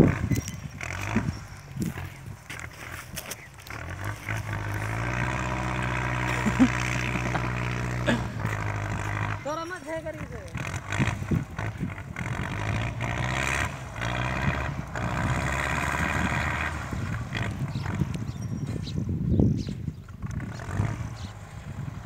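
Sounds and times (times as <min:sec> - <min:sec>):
distant tractor engine idling: 0:00.0 - 0:22.0.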